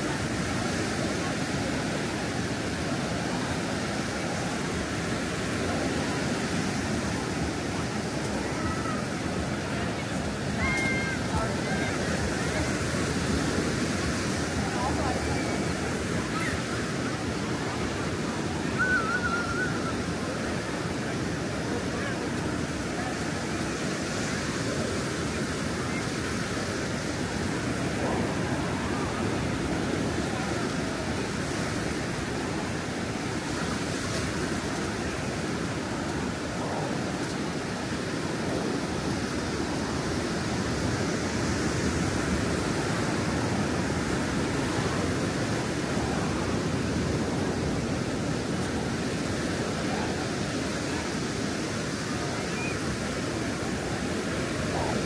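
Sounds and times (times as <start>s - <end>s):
ocean surf washing on beach: 0.0s - 55.0s.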